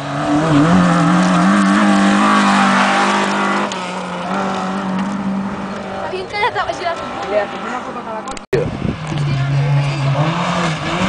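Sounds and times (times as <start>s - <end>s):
rally car engine at high revs: 0.0s - 6.1s, 6.9s - 11.0s.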